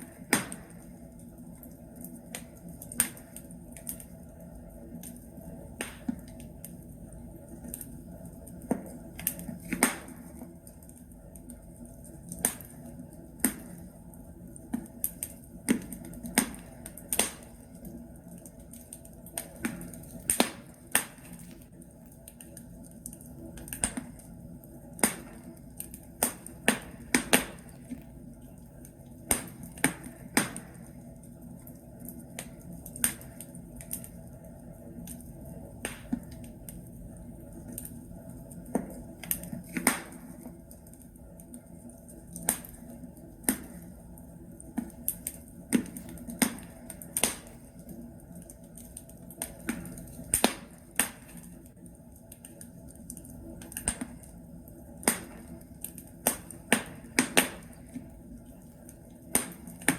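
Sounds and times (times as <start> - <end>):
logs crackling and popping in fire: 0.0 - 59.9.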